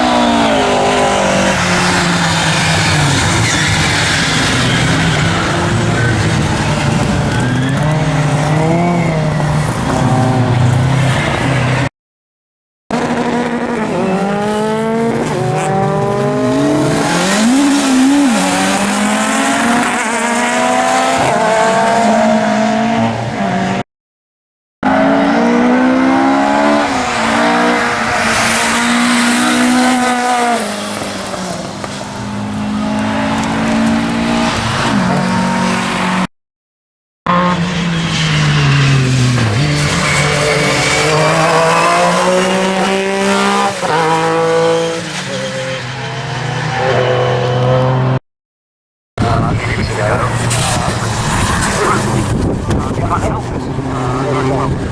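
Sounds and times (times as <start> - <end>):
rally car engines revving: 0.0 - 11.9, 12.9 - 23.8, 24.8 - 36.3, 37.3 - 48.2, 49.2 - 54.9.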